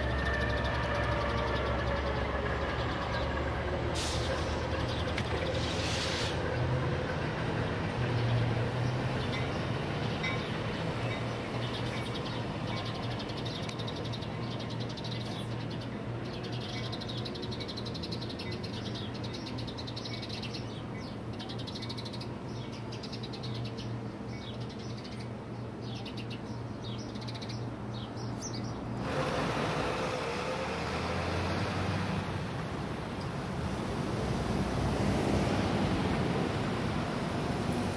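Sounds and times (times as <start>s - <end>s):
distant train low hum: 0.0s - 37.9s
road traffic: 0.0s - 37.9s.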